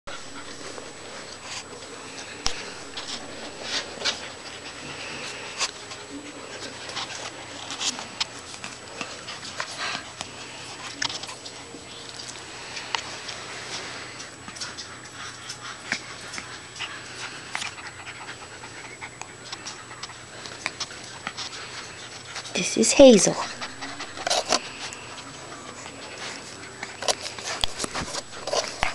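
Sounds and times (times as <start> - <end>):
puppy panting: 0.1 - 28.9.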